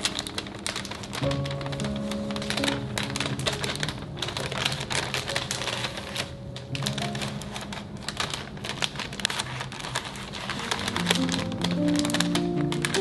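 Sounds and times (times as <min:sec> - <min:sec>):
rapid clicking and tapping: 0:00.0 - 0:13.0
soft background music: 0:00.0 - 0:13.0.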